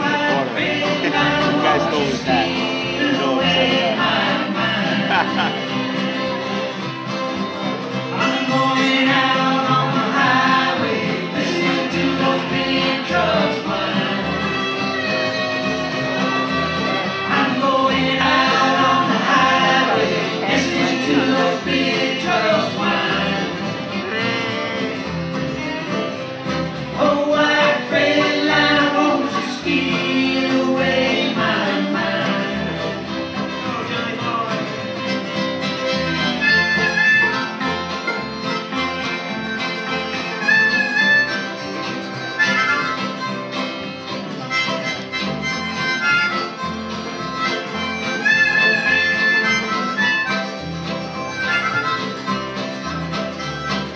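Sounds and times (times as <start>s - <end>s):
bass: 0.0s - 53.9s
fiddle: 0.0s - 53.9s
harmonica: 0.0s - 53.9s
strummed acoustic guitars: 0.0s - 53.9s.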